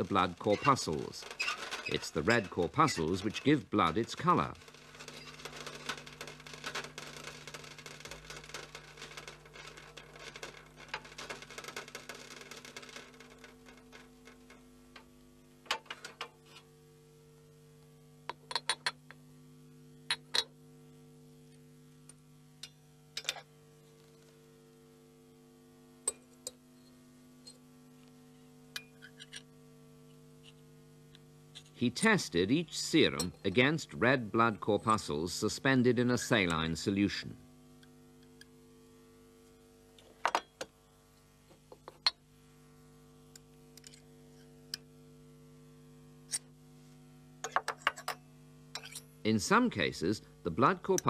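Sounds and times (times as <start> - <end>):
faint hum: 0.0 - 51.0.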